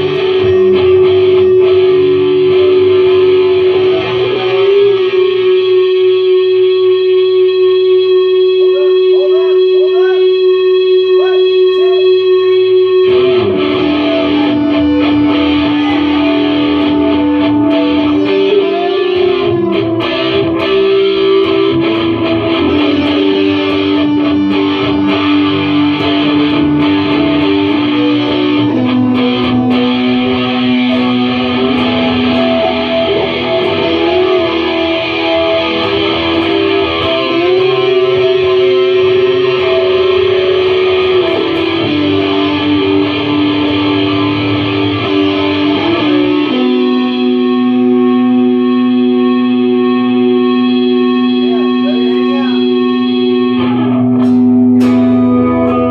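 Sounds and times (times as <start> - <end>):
electric guitar long held notes: 0.0 - 55.9.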